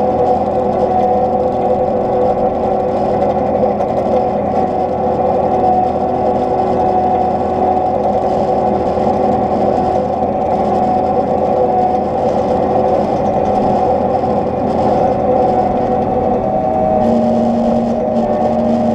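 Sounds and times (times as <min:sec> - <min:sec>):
combine harvester running: 0:00.0 - 0:18.9.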